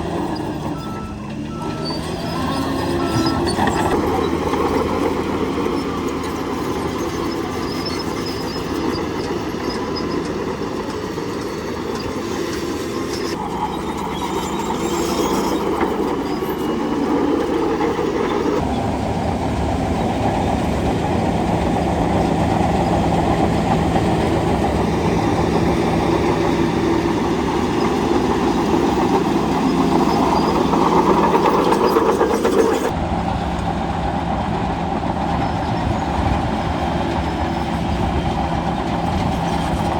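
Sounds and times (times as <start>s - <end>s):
bulldozer diesel engine: 0.0s - 39.9s
steel tracks rattling and clanking: 0.0s - 39.9s.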